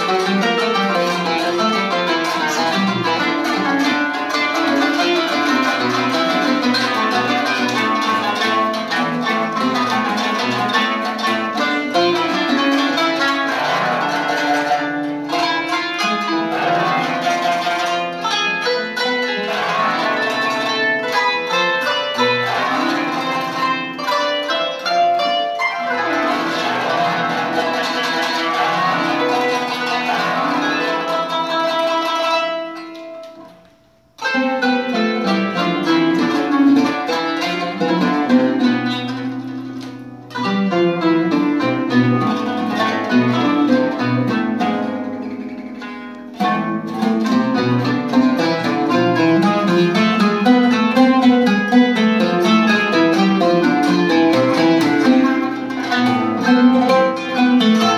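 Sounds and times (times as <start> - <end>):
kanun and oud duet: 0.0 - 57.9.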